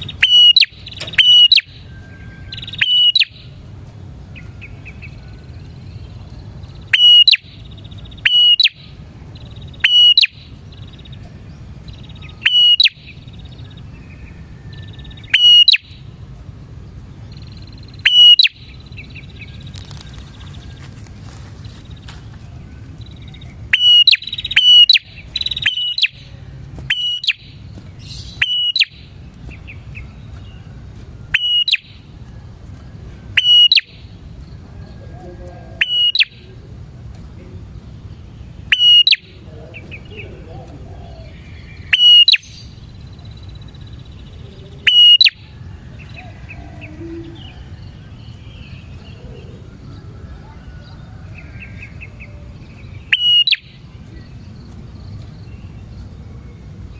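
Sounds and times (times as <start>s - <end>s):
bird sharp chirps: 0.0s - 16.3s, 17.0s - 32.4s, 33.2s - 34.9s, 35.6s - 36.7s, 37.6s - 56.2s
low steady hiss: 0.0s - 56.9s.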